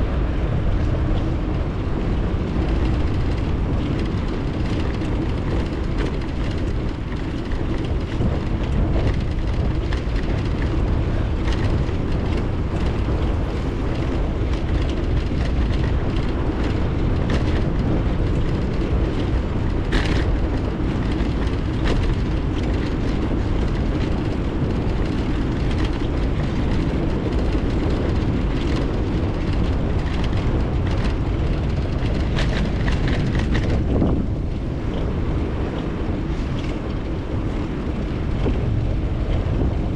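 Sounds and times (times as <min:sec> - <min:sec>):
bicycle tyres rumbling on road: 0:00.0 - 0:39.9
wind rushing over microphone: 0:00.0 - 0:39.9
light clicks and rattles: 0:02.4 - 0:39.9.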